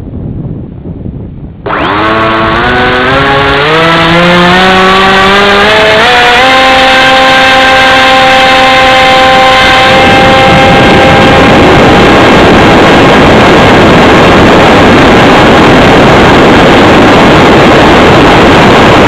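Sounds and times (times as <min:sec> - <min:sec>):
wind buffeting microphone: 0:00.0 - 0:19.0
electric motor and propeller whine: 0:01.6 - 0:19.0.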